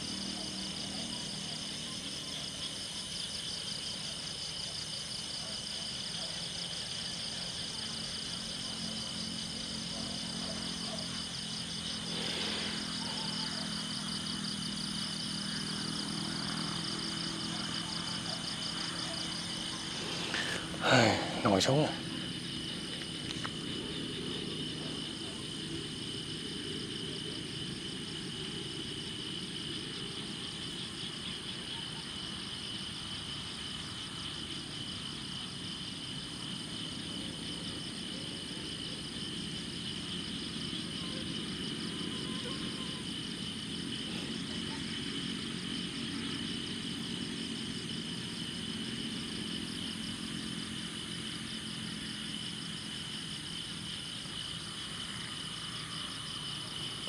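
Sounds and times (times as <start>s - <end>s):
insect trill: 0.0s - 57.0s.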